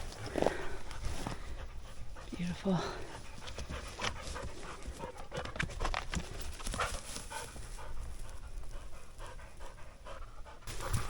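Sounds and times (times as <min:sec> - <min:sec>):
dog panting: 0:00.6 - 0:11.0.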